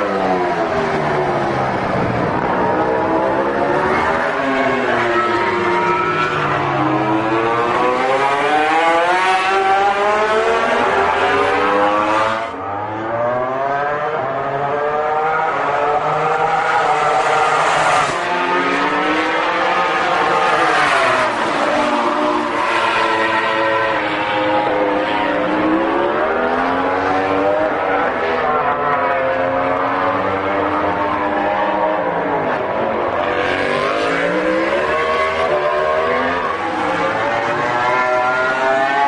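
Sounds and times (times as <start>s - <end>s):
racing motorcycle engines: 0.0s - 39.0s.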